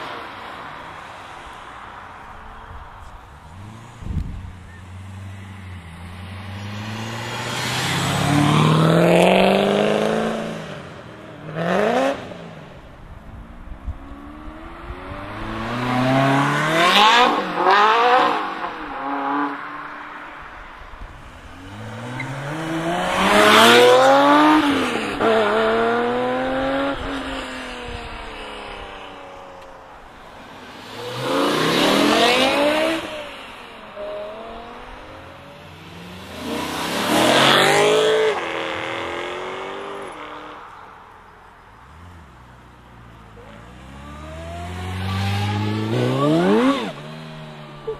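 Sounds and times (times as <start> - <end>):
sports cars accelerating past: 3.4 - 12.9, 13.9 - 41.1, 41.8 - 47.9.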